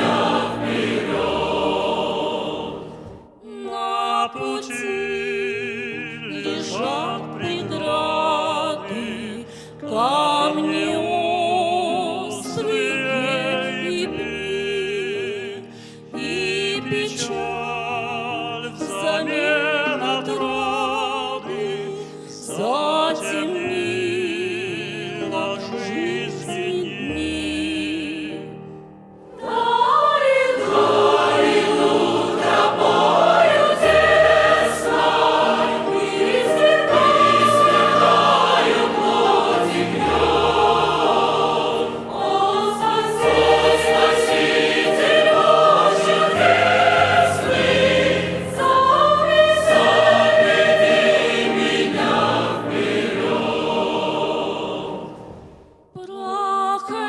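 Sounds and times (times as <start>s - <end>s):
church choir singing a hymn: 0.0s - 28.6s, 29.2s - 55.6s.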